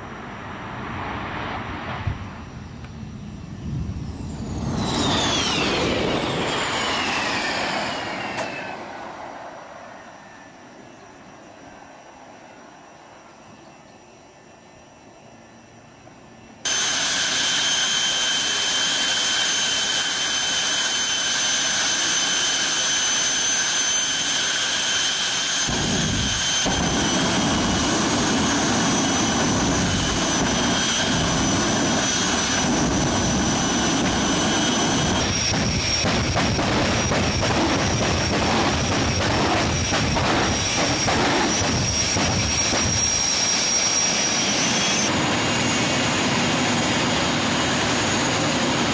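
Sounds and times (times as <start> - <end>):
afterburner rumble: 0.0 - 9.7, 16.7 - 48.9
jet turbine engine roaring: 0.0 - 48.9.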